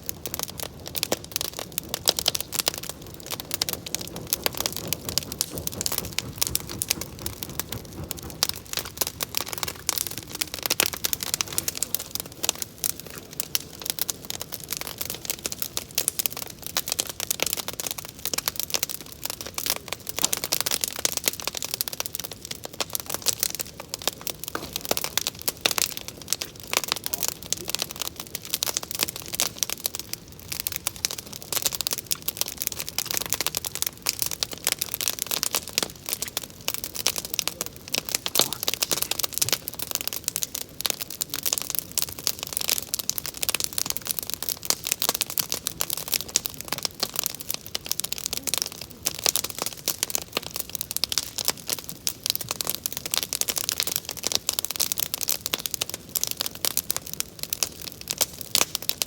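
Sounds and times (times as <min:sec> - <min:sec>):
bonfire crackling: 0:00.0 - 0:59.0.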